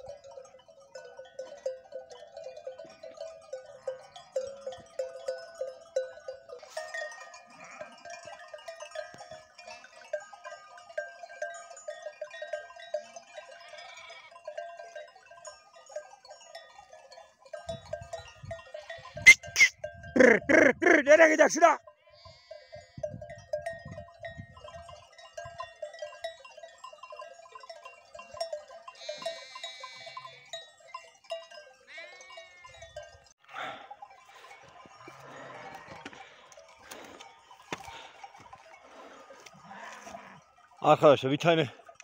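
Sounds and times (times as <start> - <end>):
sheep bells jangling: 0.0 - 42.0.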